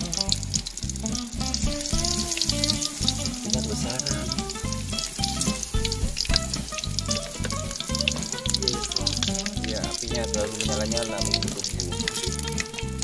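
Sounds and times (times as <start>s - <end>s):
background music with steady beat: 0.0s - 13.0s
food deep-frying in hot oil: 0.0s - 13.0s.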